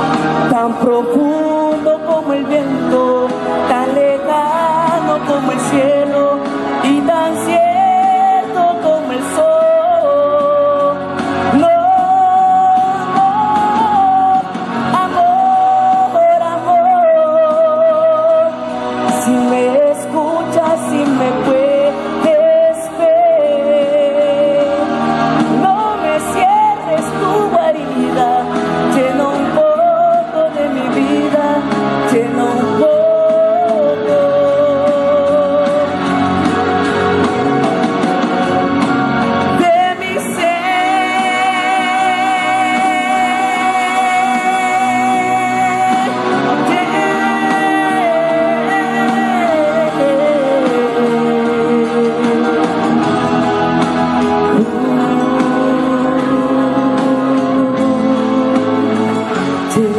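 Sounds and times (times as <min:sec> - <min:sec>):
musical accompaniment: 0:00.0 - 0:59.9
person singing a ballad: 0:00.0 - 0:59.9.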